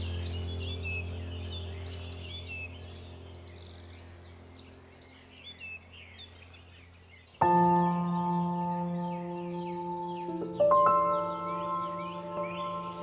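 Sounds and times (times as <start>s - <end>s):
ambient music with sustained tones: 0.0s - 13.0s
low droning background music: 0.0s - 13.0s
small birds chirping: 0.0s - 13.0s.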